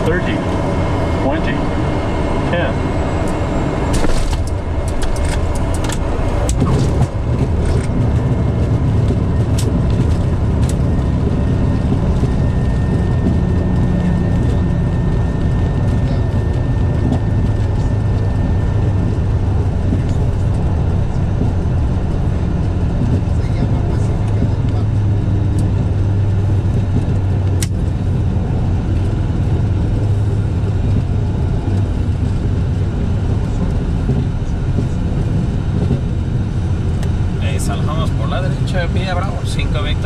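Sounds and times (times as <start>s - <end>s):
engine and wheel rumble: 0.0s - 40.0s.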